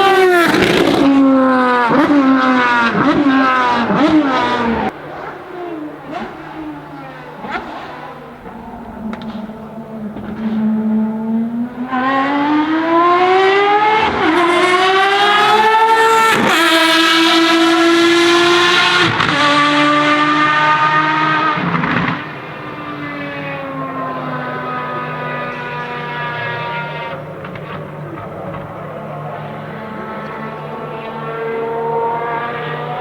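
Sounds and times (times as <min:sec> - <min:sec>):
racing engine accelerating: 0:00.0 - 0:33.0.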